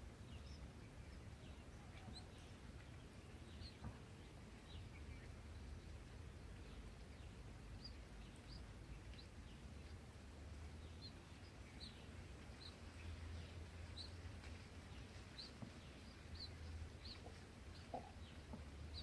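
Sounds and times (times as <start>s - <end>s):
low steady hum: 0.0s - 19.0s
nestlings chirping: 0.2s - 19.0s.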